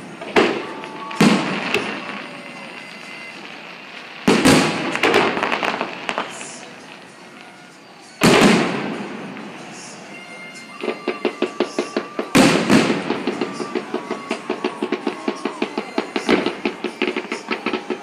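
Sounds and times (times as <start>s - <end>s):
firework shells booming: 0.0s - 18.0s.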